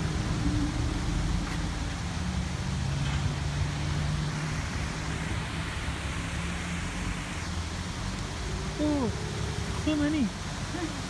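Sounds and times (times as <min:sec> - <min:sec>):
even rushing noise: 0:00.0 - 0:10.6
low engine drone: 0:00.0 - 0:11.0.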